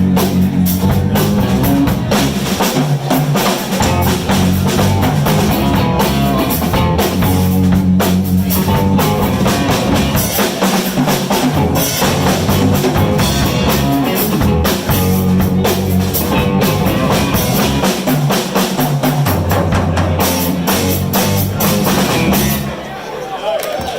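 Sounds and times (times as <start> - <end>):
bass line: 0.0 - 22.8
drum kit steady beat: 0.0 - 22.8
guitar: 0.0 - 23.0.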